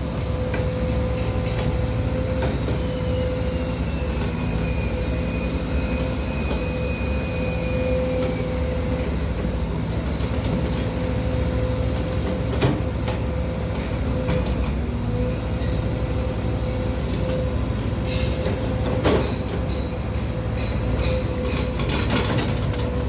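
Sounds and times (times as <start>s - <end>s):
excavator diesel engine: 0.0s - 23.0s
hydraulic whine: 0.0s - 23.0s.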